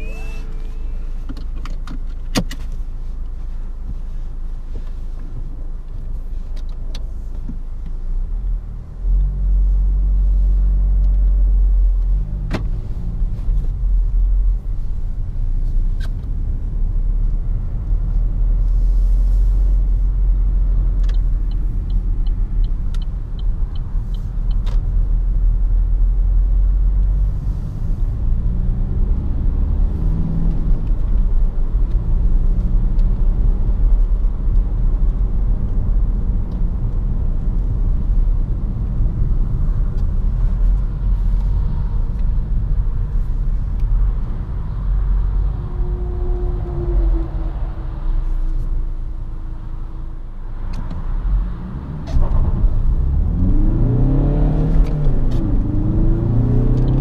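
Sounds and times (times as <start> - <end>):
diesel engine rumble in car cabin: 0.0 - 57.0.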